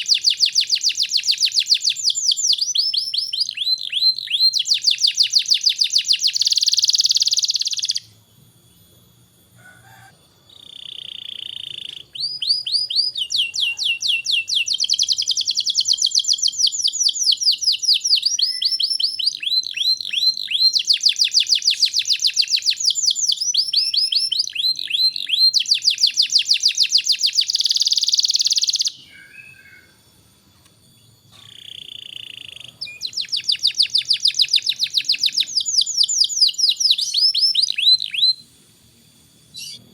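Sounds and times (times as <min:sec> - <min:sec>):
canary singing trills: 0:00.0 - 0:08.8, 0:09.6 - 0:30.2, 0:31.1 - 0:38.6, 0:39.5 - 0:39.9.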